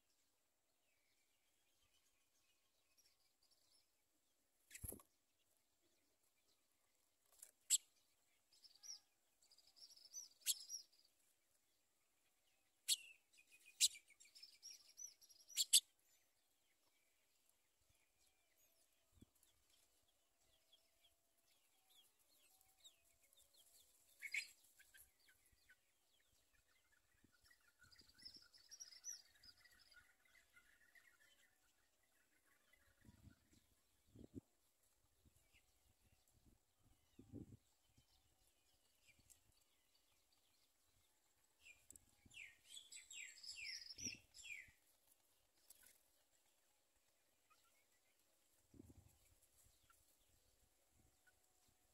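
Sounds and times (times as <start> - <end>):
sparrows chirping and twittering: 0.9 - 51.9.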